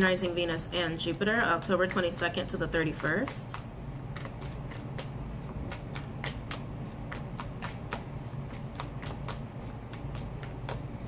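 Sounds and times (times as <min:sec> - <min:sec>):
cards being shuffled: 0:01.6 - 0:11.0.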